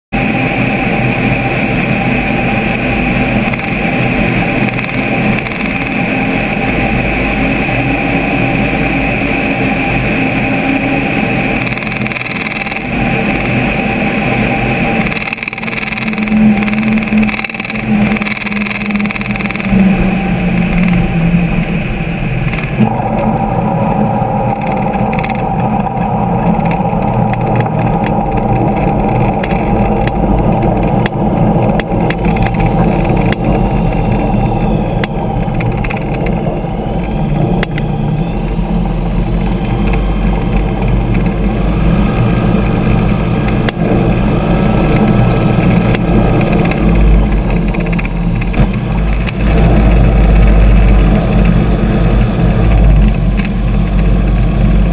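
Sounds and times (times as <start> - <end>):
rush of air: 0.2 - 54.4
light aircraft engine and propeller: 0.2 - 54.9.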